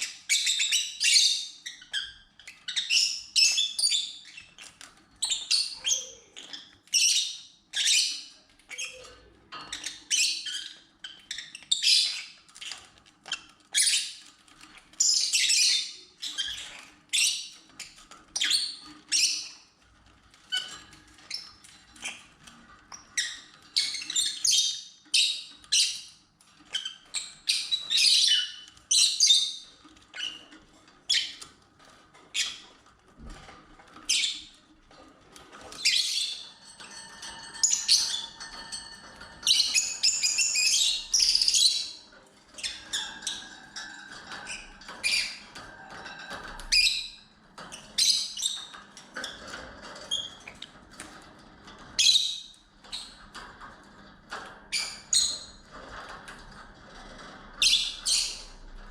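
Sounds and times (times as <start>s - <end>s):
lovebirds chirping and squawking: 0.0s - 53.6s, 54.3s - 58.9s.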